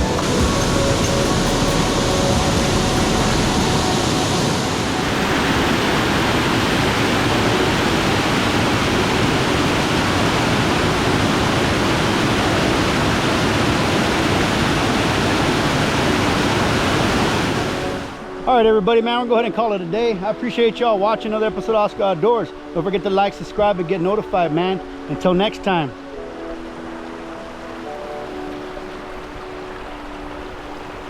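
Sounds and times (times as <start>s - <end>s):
waterfall rushing: 0.0s - 19.6s, 20.4s - 31.0s.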